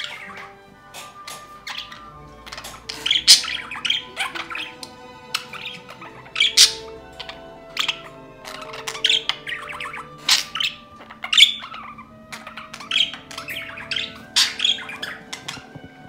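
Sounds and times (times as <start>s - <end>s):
budgerigar chirping and squawking: 0.0s - 16.0s.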